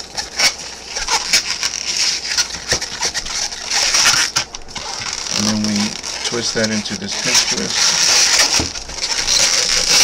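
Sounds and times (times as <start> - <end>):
balloon squeaking and rubbing: 0.0 - 10.0.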